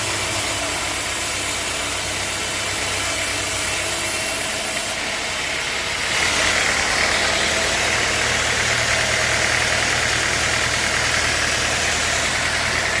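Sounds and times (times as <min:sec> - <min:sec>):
high mechanical whine: 0:00.0 - 0:13.0
sawmill machinery running: 0:00.0 - 0:13.0.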